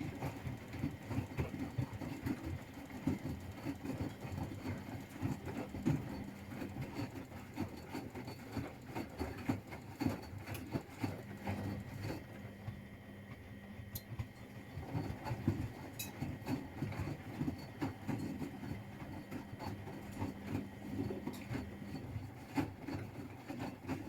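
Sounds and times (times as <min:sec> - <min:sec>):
washing machine hum: 0:00.0 - 0:24.0.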